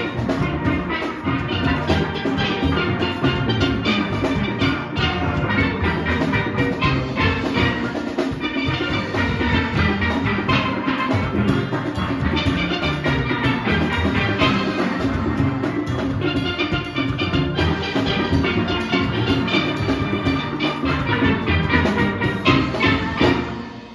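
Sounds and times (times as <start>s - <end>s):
drums: 0.0s - 23.9s
steel orchestra playing soca: 0.0s - 23.9s.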